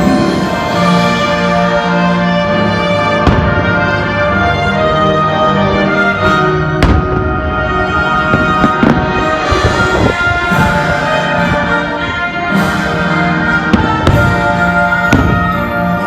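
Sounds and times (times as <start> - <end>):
orchestral music: 0.0 - 16.0
fireworks bangs: 2.6 - 16.0.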